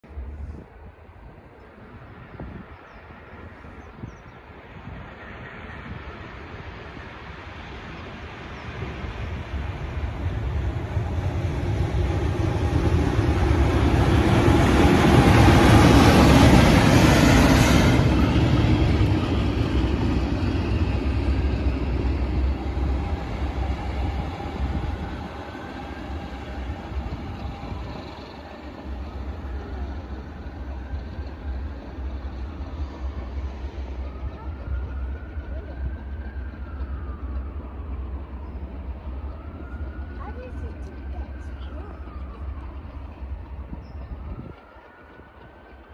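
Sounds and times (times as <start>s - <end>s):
diesel locomotive engine: 0.0s - 45.9s
train wheels on rails: 0.1s - 45.9s.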